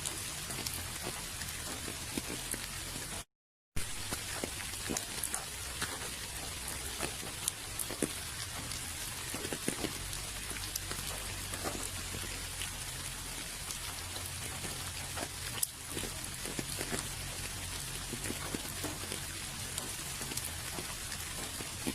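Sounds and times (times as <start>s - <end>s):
rain falling: 0.0s - 21.9s
raindrops ticking: 0.0s - 21.9s.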